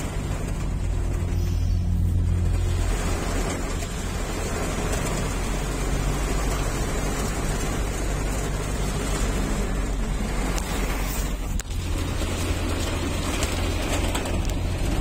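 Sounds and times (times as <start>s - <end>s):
engine and road rumble: 0.0s - 15.0s
heavy rain on car roof: 0.0s - 15.0s.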